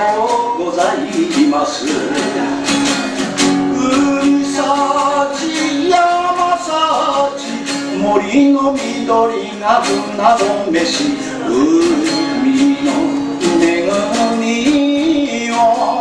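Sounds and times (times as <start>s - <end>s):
man singing: 0.0s - 2.8s, 3.6s - 16.0s
strummed acoustic guitar: 0.0s - 16.0s.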